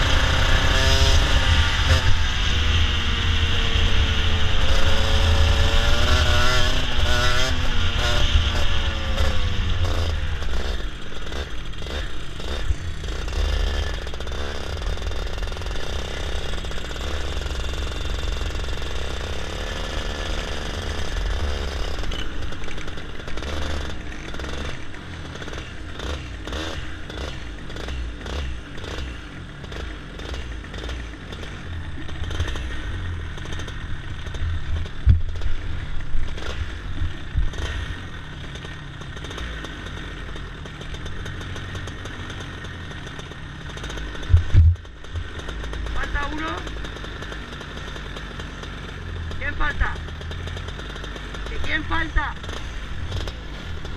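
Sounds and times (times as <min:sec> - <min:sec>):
kart engine at low revs: 0:00.0 - 0:53.9
rapid rattling clatter: 0:08.8 - 0:29.0, 0:29.6 - 0:53.9.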